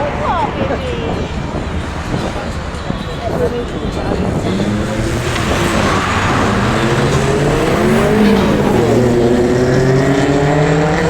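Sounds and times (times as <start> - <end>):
car engine revving hard: 1.3 - 11.0.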